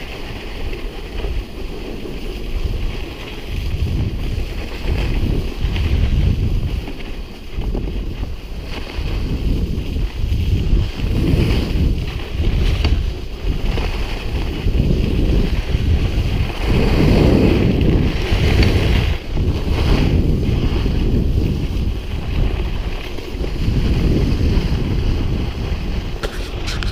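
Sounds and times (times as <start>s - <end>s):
skis scraping on snow: 0.0s - 26.9s
wind buffeting microphone: 0.0s - 26.9s.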